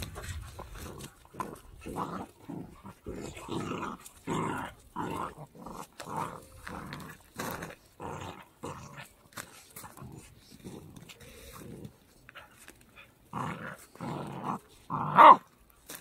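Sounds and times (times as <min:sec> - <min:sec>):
dogs growling: 0:00.0 - 0:12.5, 0:13.1 - 0:15.4.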